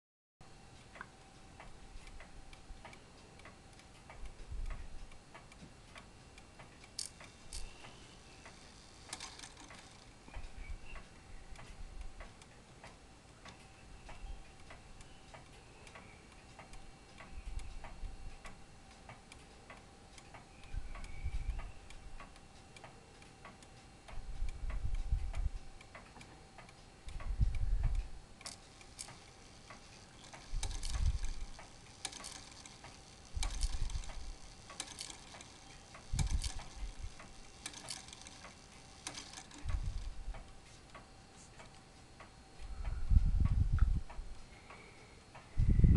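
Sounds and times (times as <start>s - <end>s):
clock ticking: 0.7s - 42.4s.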